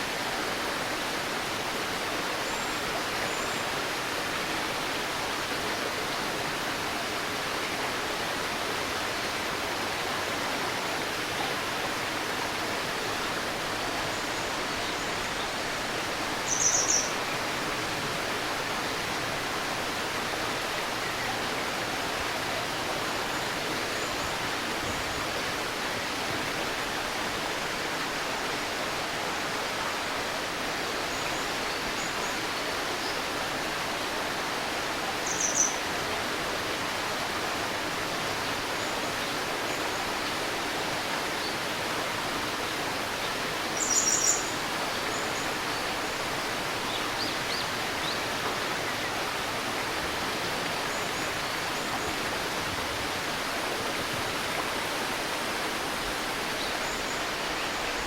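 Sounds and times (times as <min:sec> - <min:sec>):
river babbling: 0:00.0 - 0:58.0.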